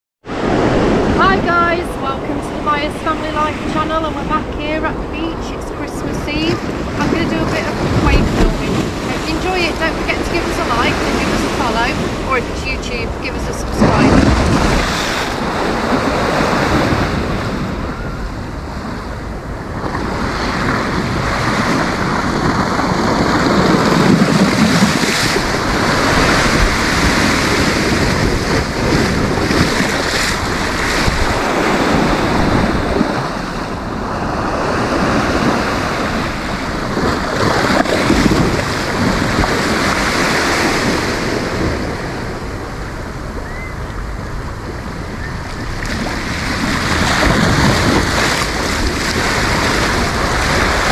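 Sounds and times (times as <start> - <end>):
sea waves breaking on shore: 0.2 - 50.9
wind buffeting microphone: 0.2 - 50.9.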